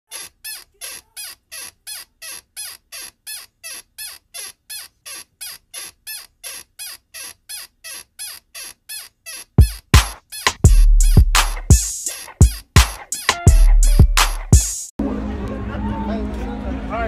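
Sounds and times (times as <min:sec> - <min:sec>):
short high squeaky chirps: 0:00.1 - 0:14.6.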